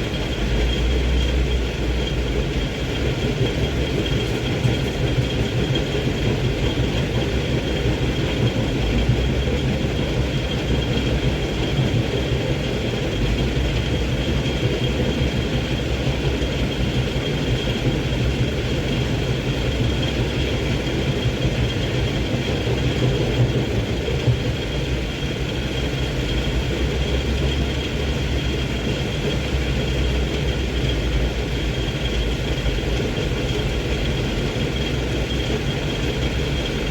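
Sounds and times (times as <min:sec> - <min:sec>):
diesel truck engine rumble: 0:00.0 - 0:36.9.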